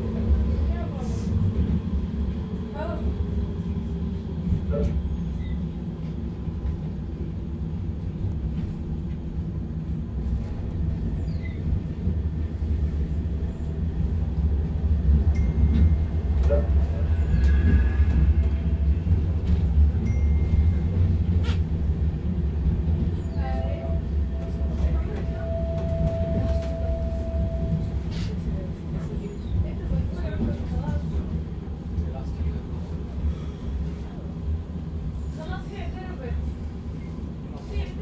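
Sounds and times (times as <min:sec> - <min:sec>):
tram wheels rumbling: 0:00.0 - 0:38.0.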